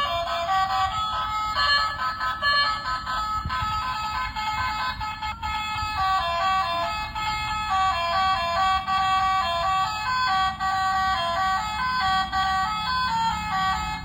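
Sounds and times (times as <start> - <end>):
toy car electronic tune: 0.0 - 14.0.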